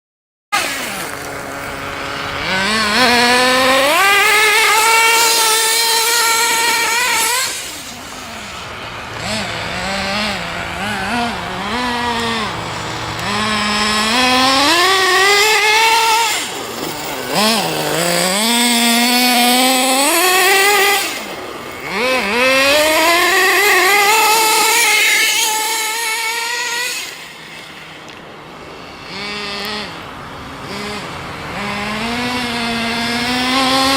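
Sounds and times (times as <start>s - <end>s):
rc car engine screaming: 0.6s - 33.9s.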